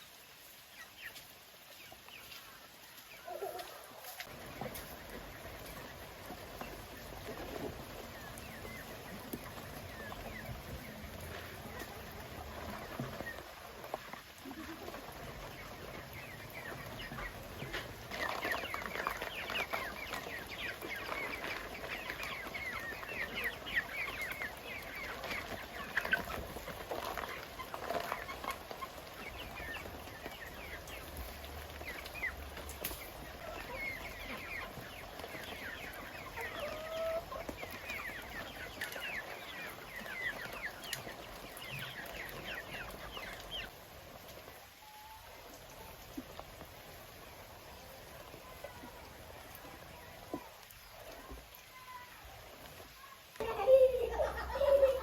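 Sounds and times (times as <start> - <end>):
chickens clucking: 0.2 - 55.0.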